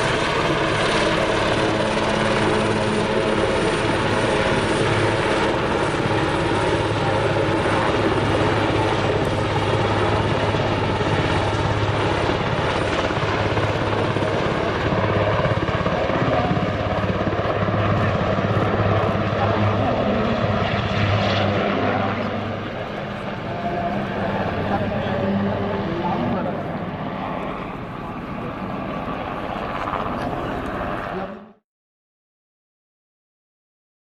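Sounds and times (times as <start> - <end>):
helicopter flying low past: 0.0 - 31.6.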